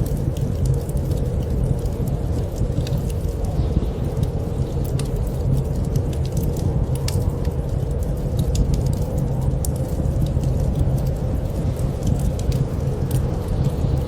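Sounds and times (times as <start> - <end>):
steady low rumble: 0.0 - 14.0
wood fire crackling: 0.0 - 14.0.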